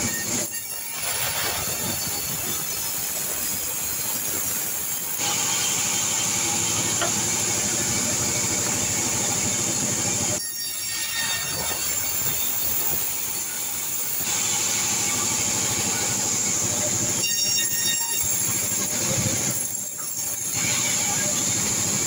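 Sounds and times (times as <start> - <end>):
high whine of saw blade: 0.0 - 22.0.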